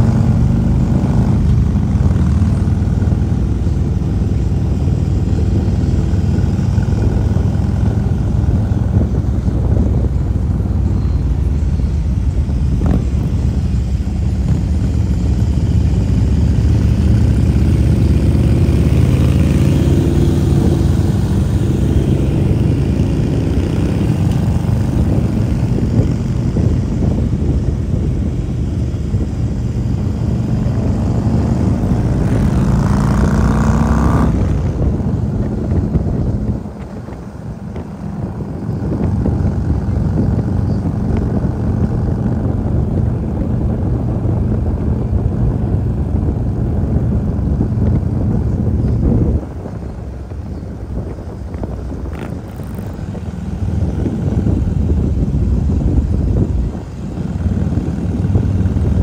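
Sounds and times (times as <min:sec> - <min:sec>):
motorcycle engine running: 0:00.0 - 0:59.0
other motorcycles nearby: 0:00.0 - 0:59.0.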